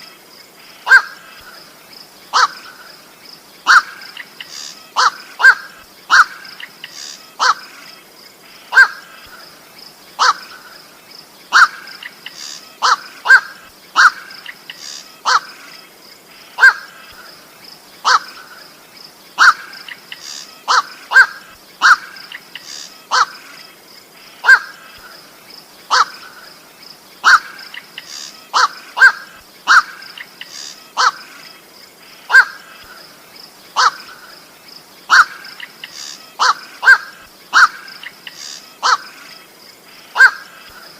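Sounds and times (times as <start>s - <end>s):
bird harsh calls: 0.0s - 40.9s.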